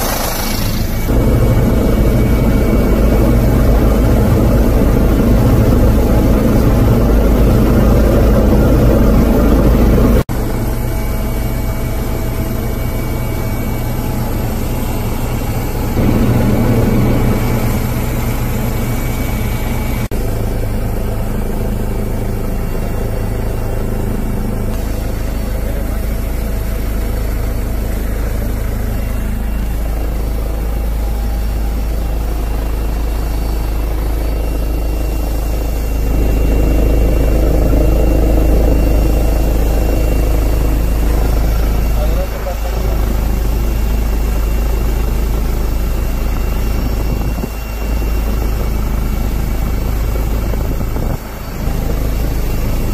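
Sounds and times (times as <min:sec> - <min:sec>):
helicopter engine and rotor drone: 0:00.0 - 0:52.9.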